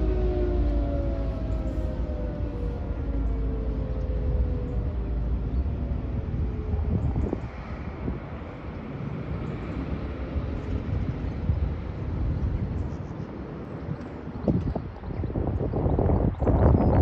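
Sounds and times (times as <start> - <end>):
low outdoor rumble: 0.0 - 17.0
wind buffeting microphone: 0.0 - 17.0.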